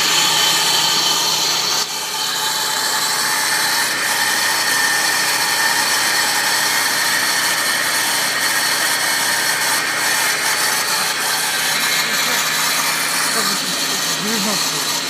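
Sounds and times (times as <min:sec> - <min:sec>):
engine high whining tones: 0:00.0 - 0:15.0.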